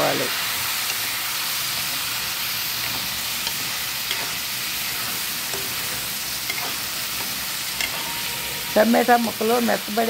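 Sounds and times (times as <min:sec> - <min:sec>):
oil sizzling in a frying pan: 0:00.0 - 0:10.0
spatula scraping a pan: 0:00.6 - 0:09.5.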